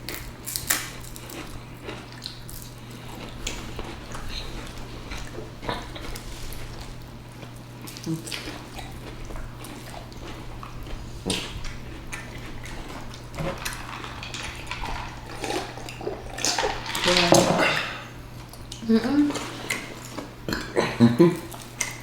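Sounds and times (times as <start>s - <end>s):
steady low hum: 0.0s - 22.0s
wet chewing: 0.1s - 22.0s.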